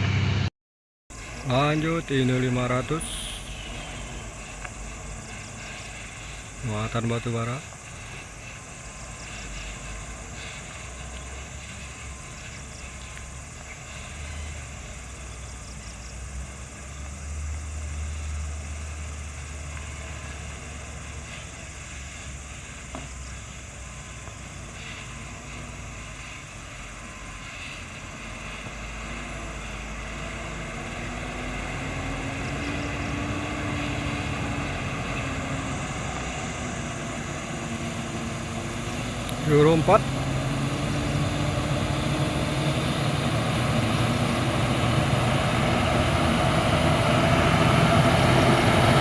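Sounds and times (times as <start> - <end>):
truck diesel engine rumbling: 0.0 - 0.5, 1.1 - 49.0.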